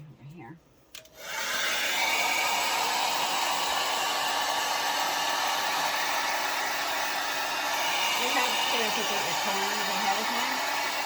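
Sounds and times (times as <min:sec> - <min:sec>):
hair dryer blowing: 0:01.0 - 0:11.0.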